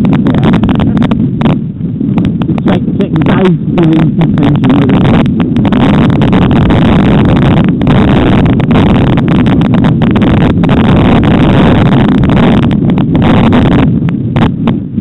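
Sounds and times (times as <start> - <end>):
steady rumbling from riding: 0.0 - 15.0
wind buffeting microphone: 0.0 - 15.0.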